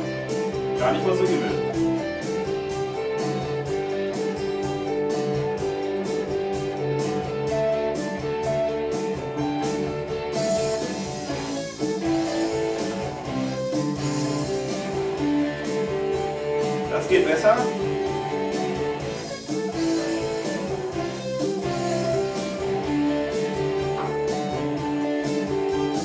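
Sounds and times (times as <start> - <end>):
guitar picking single notes: 0.0 - 26.0.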